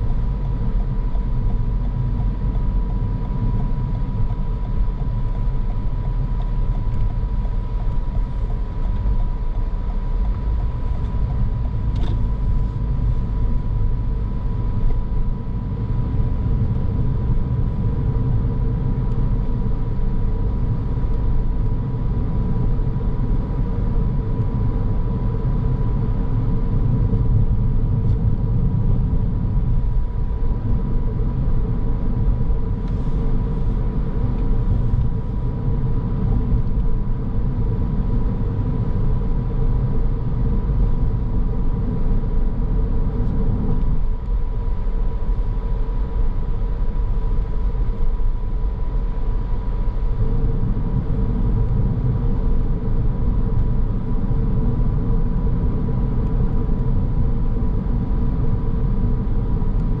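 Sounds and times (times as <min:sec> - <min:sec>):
road and tyre rumble: 0:00.0 - 1:00.0.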